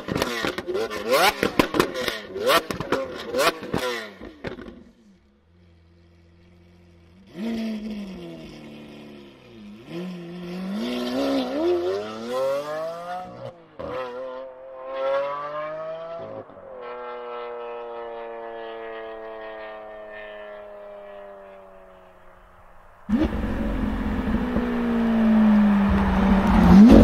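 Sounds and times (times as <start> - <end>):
car engine idling and revving: 0.0 - 27.0
car accelerating away: 0.1 - 4.8, 5.7 - 27.0.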